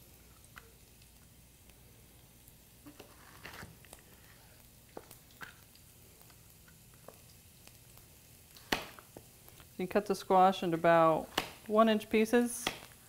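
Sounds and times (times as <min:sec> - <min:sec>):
faint sizzle in oil: 0:00.0 - 0:13.0.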